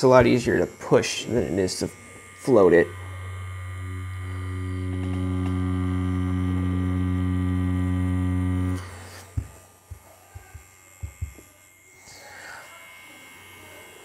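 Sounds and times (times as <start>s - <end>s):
tattoo machine buzzing: 0.0s - 14.0s.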